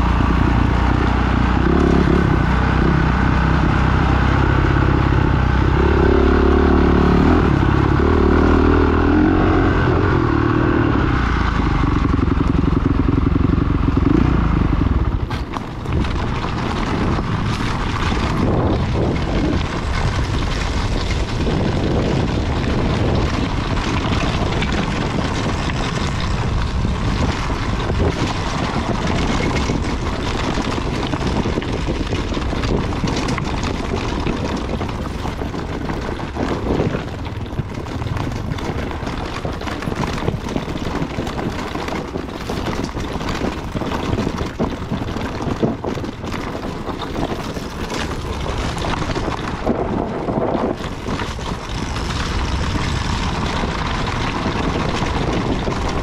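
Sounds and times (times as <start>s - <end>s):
dirt bike engine running: 0.0s - 56.0s
bike knocking and rattling on rocks: 3.6s - 56.0s.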